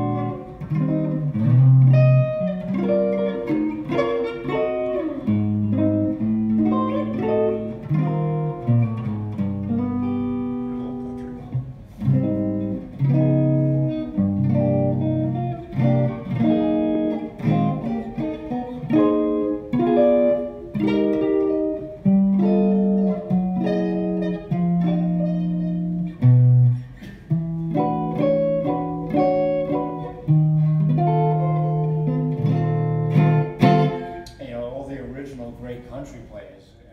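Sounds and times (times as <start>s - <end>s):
electric guitar playing: 0.0s - 34.4s.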